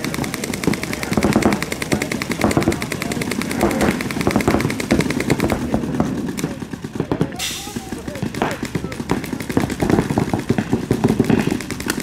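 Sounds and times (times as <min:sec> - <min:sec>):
paintball marker firing: 0:00.0 - 0:12.0.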